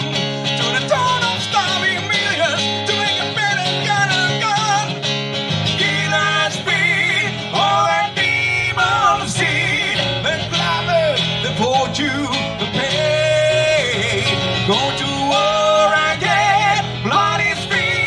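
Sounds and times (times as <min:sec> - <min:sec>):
electric guitar lead melody: 0:00.0 - 0:18.0.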